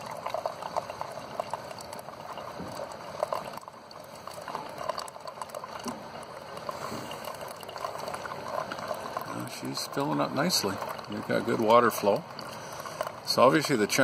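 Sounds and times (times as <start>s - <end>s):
coffee pouring into a mug: 0.0s - 14.0s.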